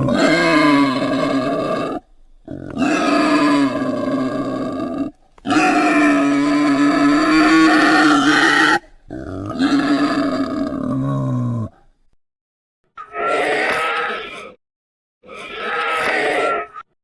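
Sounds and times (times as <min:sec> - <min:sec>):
dinosaur roar: 0:00.0 - 0:11.8, 0:13.1 - 0:14.6, 0:15.3 - 0:16.9.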